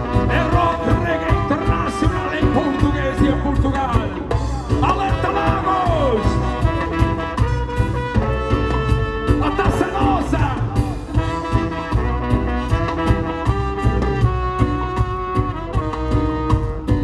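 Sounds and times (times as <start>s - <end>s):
bass: 0.0s - 17.0s
drum beat: 0.0s - 17.0s
horn section playing: 0.0s - 17.0s.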